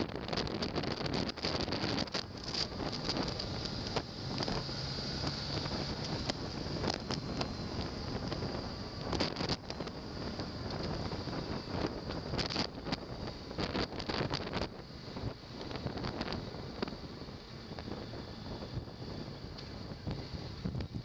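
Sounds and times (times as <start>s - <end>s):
road noise: 0.0s - 21.0s
wind buffeting microphone: 0.0s - 21.0s
motorcycle engine: 0.1s - 21.0s.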